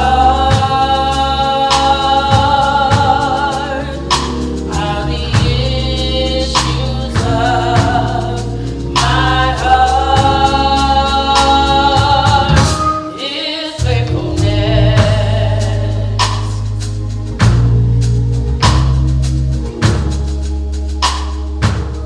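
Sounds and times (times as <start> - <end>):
band with bass and drums: 0.0 - 13.1, 13.8 - 22.0
gospel choir singing: 0.0 - 22.0.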